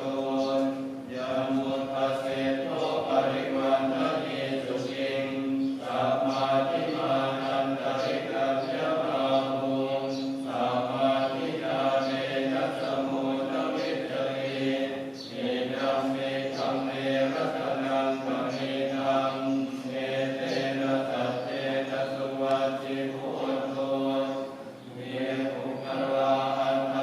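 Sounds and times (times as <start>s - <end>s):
voices chanting: 0.0s - 27.0s.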